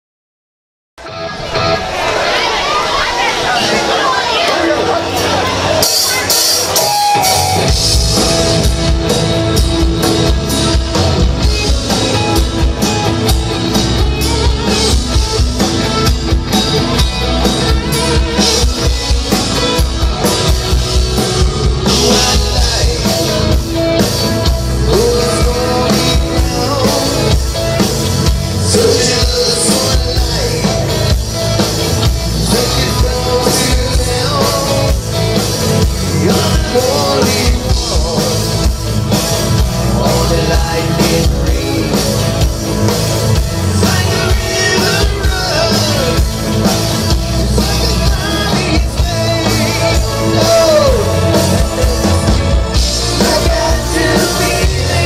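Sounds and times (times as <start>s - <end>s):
bass guitar: 1.0s - 55.0s
electric guitar: 1.0s - 55.0s
keyboard: 1.0s - 55.0s
drum kit beat: 5.2s - 55.0s.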